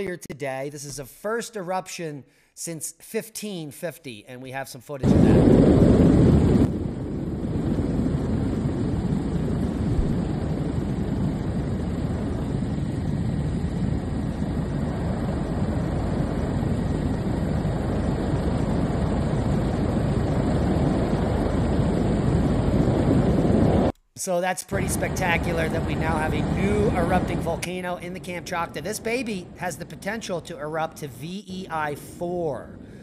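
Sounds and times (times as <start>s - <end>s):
aircraft engine rumble: 5.0s - 23.9s, 24.7s - 33.0s.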